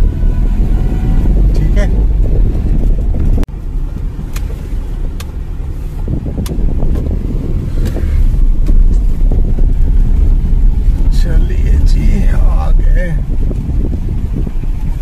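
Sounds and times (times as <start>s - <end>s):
car road and engine rumble: 0.0s - 15.0s
wind noise: 0.0s - 15.0s.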